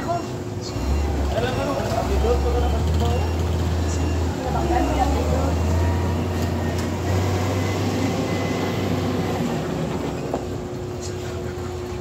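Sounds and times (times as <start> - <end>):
diesel engine passing: 0.6 - 12.0.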